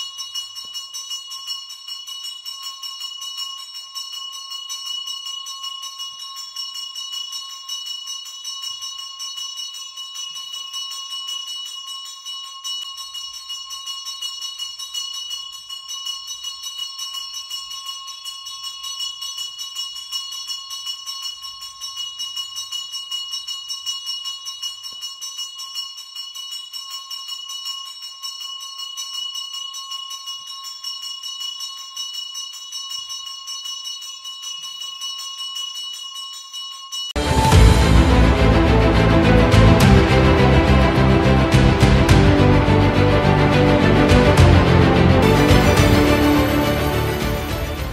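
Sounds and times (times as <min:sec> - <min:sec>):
bell ringing rapidly: 0:00.0 - 0:47.9.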